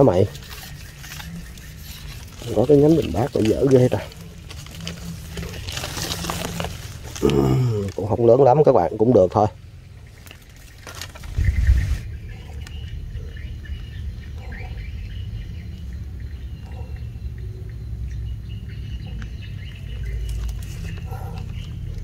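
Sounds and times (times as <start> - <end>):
birds chirping: 0.0 - 22.0
low steady rumble: 0.3 - 22.0.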